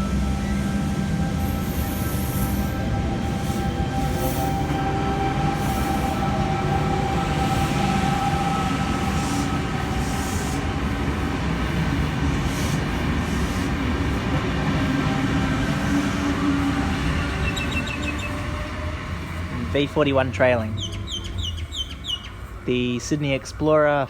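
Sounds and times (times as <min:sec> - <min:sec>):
train rumble: 0:00.0 - 0:24.0.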